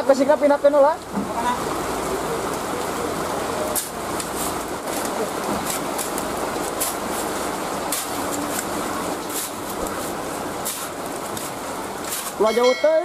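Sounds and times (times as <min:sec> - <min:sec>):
heavy rain pouring: 0:00.0 - 0:13.0
raindrops tapping nearby: 0:00.0 - 0:13.0.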